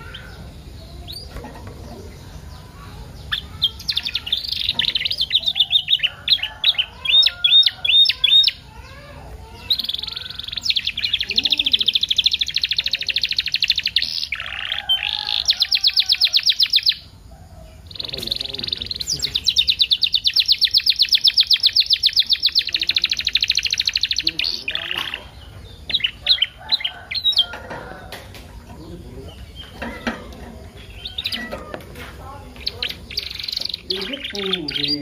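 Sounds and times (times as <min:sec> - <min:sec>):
canary singing: 0:00.0 - 0:35.0.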